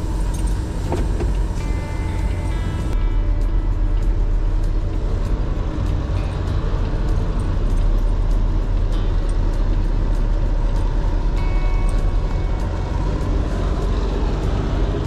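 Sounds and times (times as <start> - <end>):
truck diesel engine rumble: 0.0 - 15.0.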